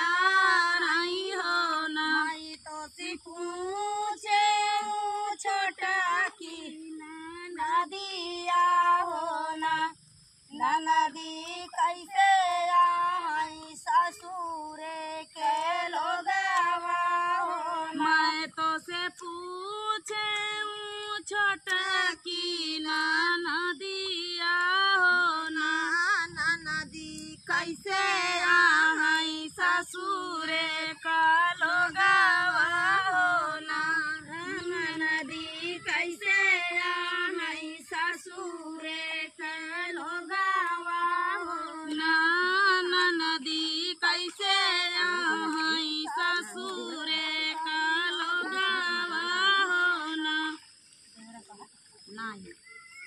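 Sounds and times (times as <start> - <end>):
woman singing folk song: 0.0 - 52.6.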